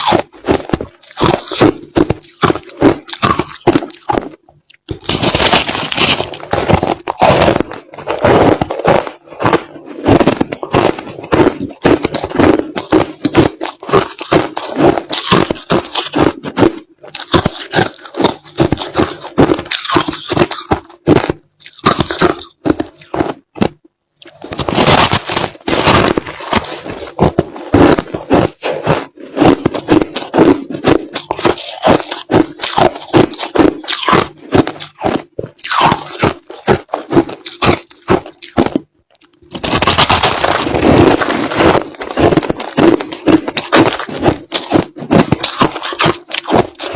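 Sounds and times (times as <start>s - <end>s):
crushed ice being chewed: 0.0s - 46.9s.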